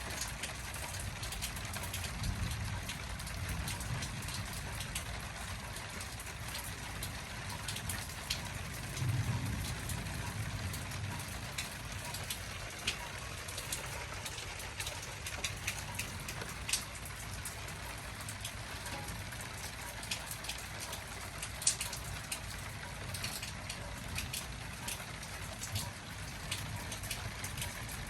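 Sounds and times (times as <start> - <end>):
raindrops ticking close by: 0.0 - 28.0
steady rain falling: 0.0 - 28.0.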